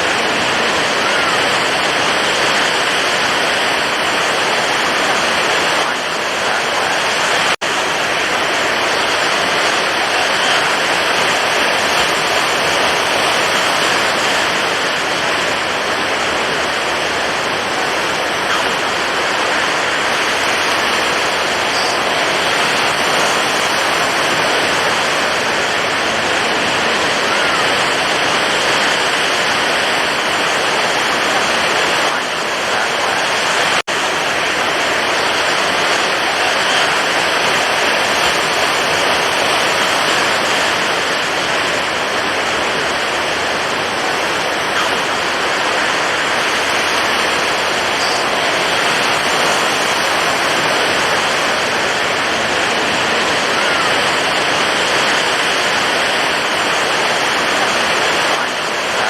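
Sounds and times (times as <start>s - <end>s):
stormy ocean waves: 0.0s - 59.0s.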